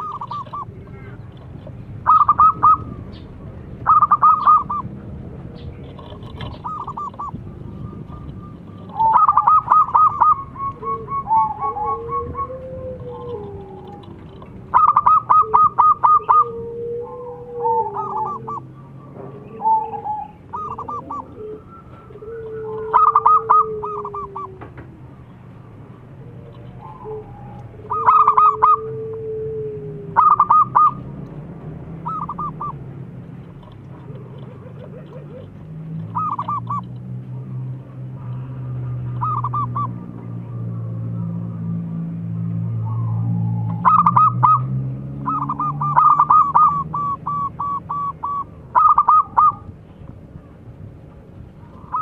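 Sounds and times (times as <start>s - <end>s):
doves cooing: 0.0s - 52.0s.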